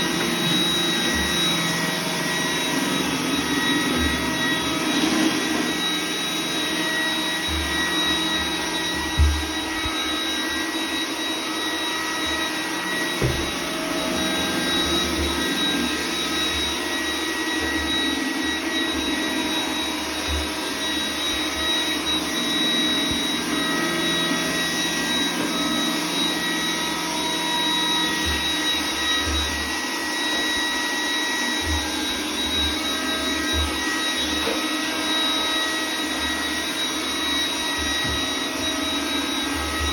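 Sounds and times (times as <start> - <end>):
robot vacuum whining: 0.0 - 39.9.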